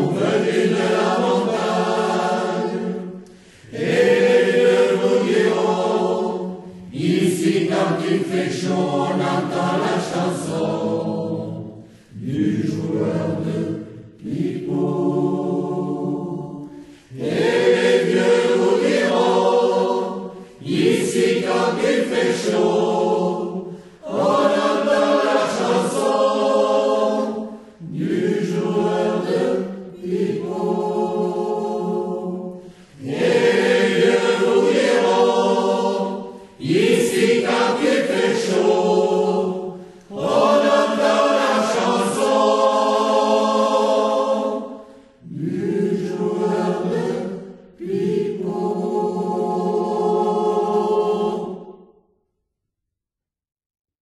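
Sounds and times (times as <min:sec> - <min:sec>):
choir singing held chords: 0:00.0 - 0:52.3.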